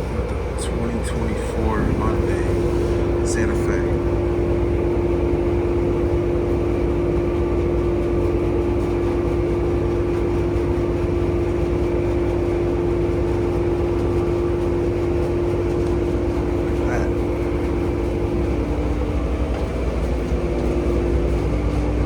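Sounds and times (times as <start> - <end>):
car wash machinery humming: 0.0 - 22.0.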